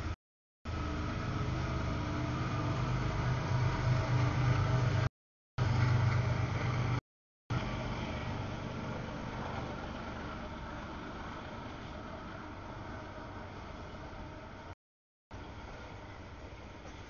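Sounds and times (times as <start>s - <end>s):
diesel locomotive engine drone: 0.0s - 17.0s
rolling rail noise: 0.7s - 17.0s.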